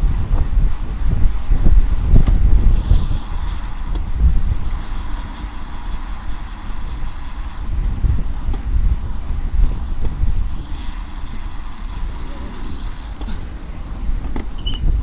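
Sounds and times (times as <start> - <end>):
wind buffeting microphone: 0.0 - 15.0
bicycle freewheel buzzing: 2.4 - 15.0.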